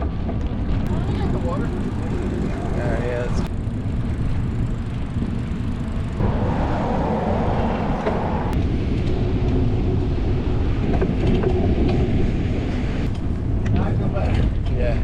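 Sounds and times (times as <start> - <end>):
traffic rumble: 0.0 - 15.0
wind on microphone: 0.0 - 15.0.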